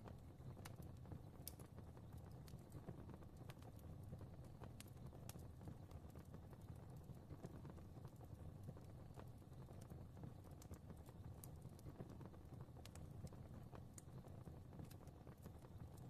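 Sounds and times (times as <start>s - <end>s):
fire flames rumbling: 0.0s - 16.0s
fire popping and snapping: 0.0s - 16.0s.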